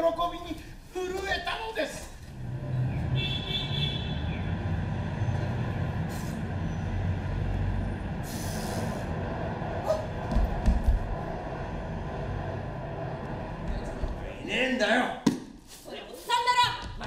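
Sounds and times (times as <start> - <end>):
traffic rumble: 0.0 - 15.2.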